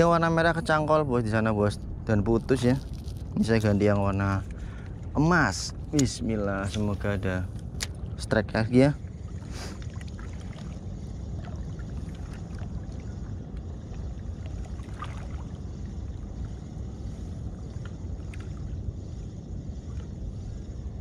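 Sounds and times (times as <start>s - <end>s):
wind buffeting the microphone: 0.0s - 21.0s.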